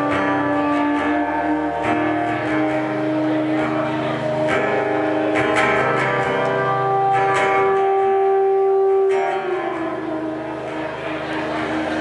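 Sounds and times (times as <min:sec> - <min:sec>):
acoustic guitar chords: 0:00.0 - 0:12.0
folk band playing instrumental: 0:00.0 - 0:12.0.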